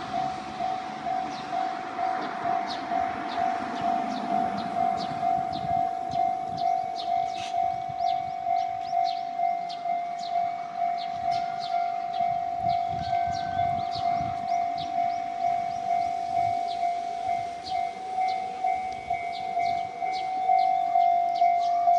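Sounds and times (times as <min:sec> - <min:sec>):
level-crossing alarm dinging: 0:00.0 - 0:21.9.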